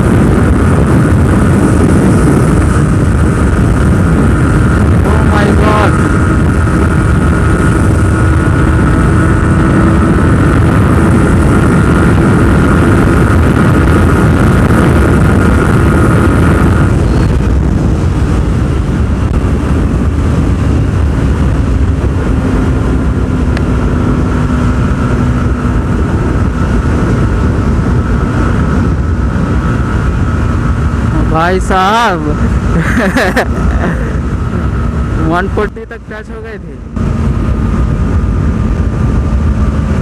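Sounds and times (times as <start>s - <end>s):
motorcycle engine at high revs: 0.0s - 40.0s
wind on microphone: 0.0s - 40.0s.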